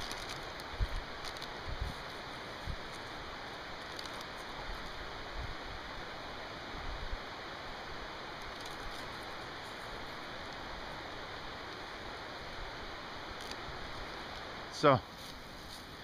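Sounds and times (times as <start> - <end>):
rushing hiss of background noise: 0.0 - 16.0.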